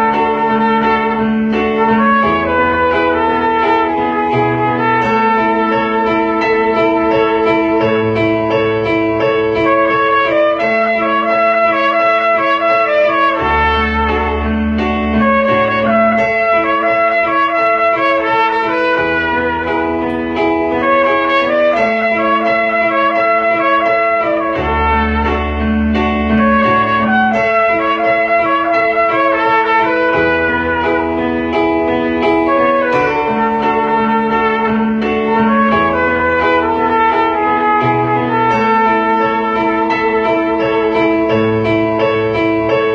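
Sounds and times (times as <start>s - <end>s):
trumpet slow melody: 0.0s - 42.9s.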